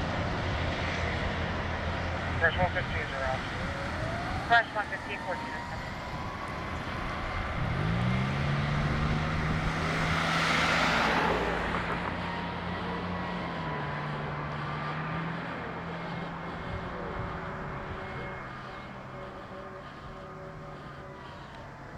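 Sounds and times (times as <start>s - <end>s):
fire engine accelerating past: 0.0s - 21.9s.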